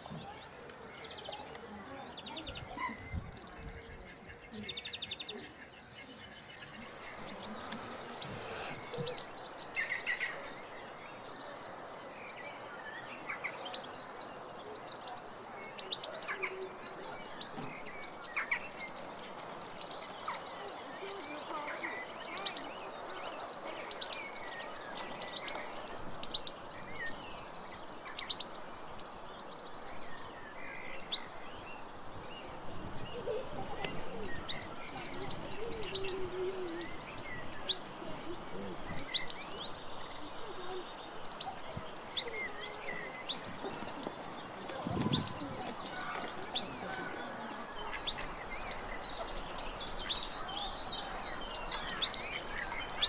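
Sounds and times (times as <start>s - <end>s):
birds chirping and trilling: 0.0s - 53.0s
steady background hiss: 6.7s - 53.0s.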